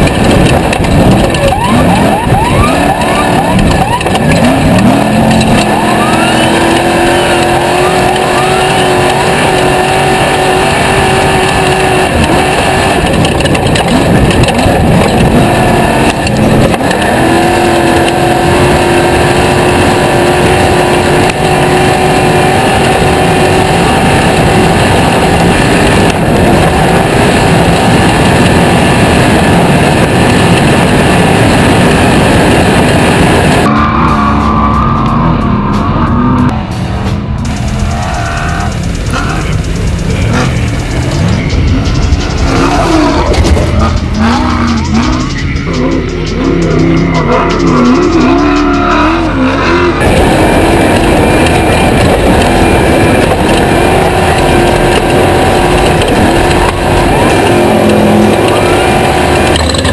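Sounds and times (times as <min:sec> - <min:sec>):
constant rushing noise: 0:00.0 - 0:59.9
race vehicle engine revving: 0:00.0 - 0:59.9.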